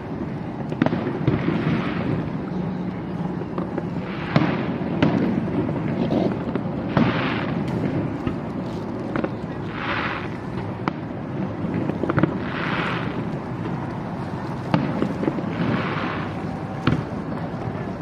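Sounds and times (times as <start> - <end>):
fireworks hissing bursts: 0.0 - 18.0
fireworks rumble: 0.0 - 18.0
fireworks sharp bangs: 0.0 - 18.0.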